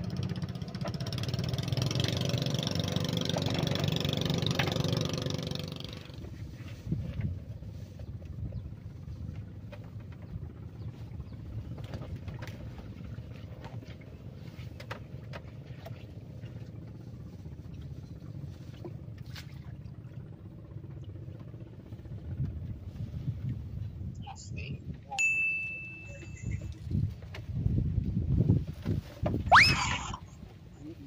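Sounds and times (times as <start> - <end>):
boat engine rumbling: 0.0 - 31.0.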